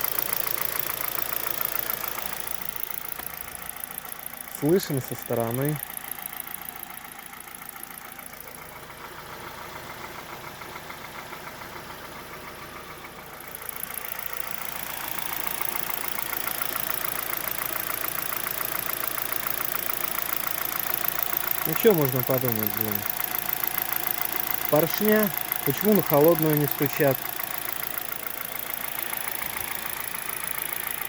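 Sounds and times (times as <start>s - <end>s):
car engine idling: 0.0s - 31.0s
rapid engine knock: 0.0s - 31.0s.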